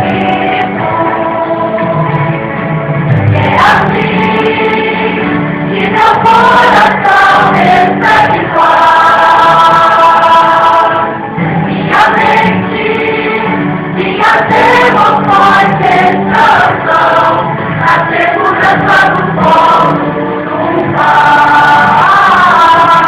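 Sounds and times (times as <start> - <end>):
choir singing gospel: 0.0 - 23.0.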